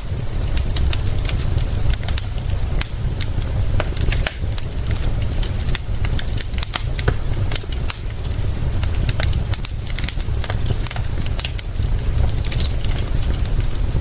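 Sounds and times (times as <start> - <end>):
low rumble: 0.0 - 14.0
wood fire crackling and popping: 0.0 - 14.0.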